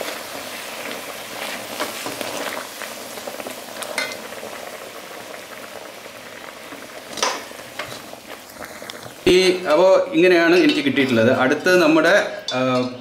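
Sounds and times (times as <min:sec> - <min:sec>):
sugar bubbling and sizzling in pan: 0:00.0 - 0:12.8.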